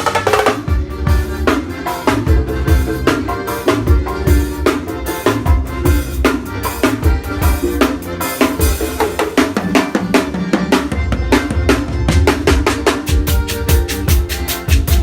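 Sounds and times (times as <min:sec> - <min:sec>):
drum kit playing fast: 0:00.0 - 0:15.0
pitched instruments: 0:00.0 - 0:15.0.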